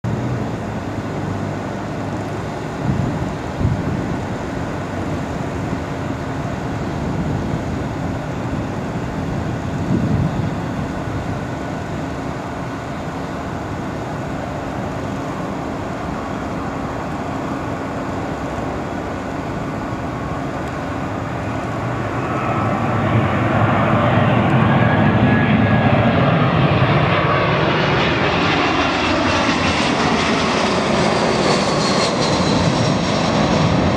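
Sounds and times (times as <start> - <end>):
high jet whine: 0.0 - 33.9
airliner jet engines rushing: 0.1 - 33.9.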